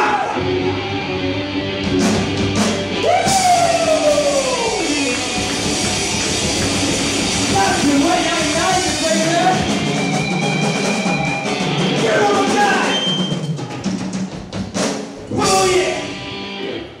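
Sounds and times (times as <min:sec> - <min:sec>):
metal band playing: 0:00.0 - 0:16.9
drum hits and cymbal crashes: 0:02.0 - 0:16.1.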